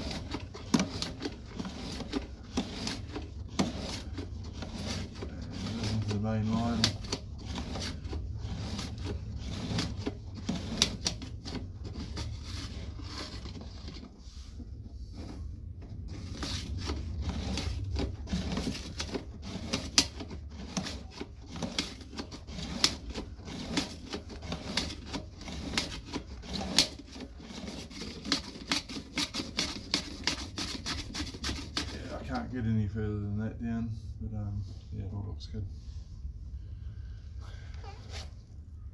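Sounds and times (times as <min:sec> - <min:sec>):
cable clicking and scraping in drain: 0:00.0 - 0:14.1, 0:15.2 - 0:32.5.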